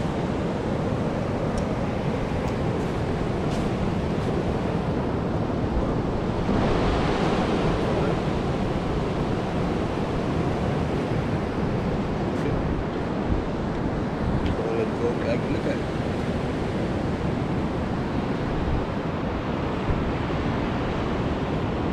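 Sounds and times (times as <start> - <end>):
surf washing on beach: 0.0 - 21.9
wind on microphone: 0.0 - 21.9.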